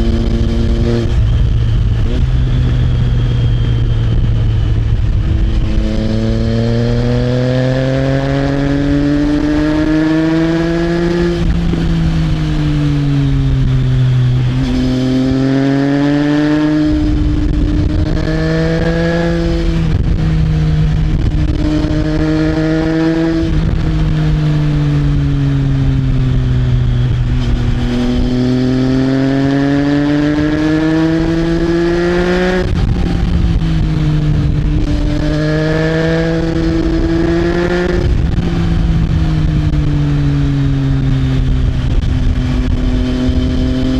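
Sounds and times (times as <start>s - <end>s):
motorcycle engine revving: 0.0s - 43.9s
wind on microphone: 0.0s - 43.9s.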